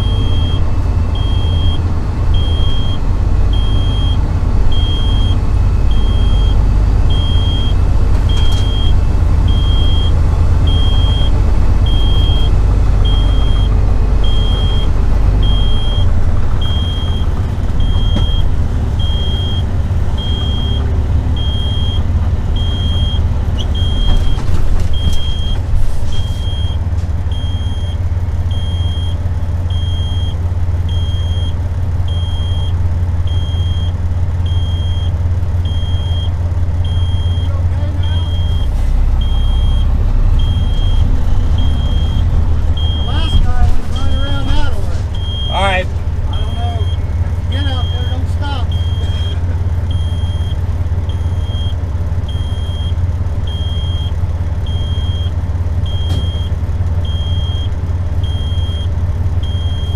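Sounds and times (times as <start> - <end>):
high-pitched beeps: 0.0 - 23.2, 26.2 - 32.7, 33.3 - 43.4, 45.2 - 45.7, 46.3 - 55.3, 55.9 - 59.9
heavy truck engine drone: 0.0 - 59.9.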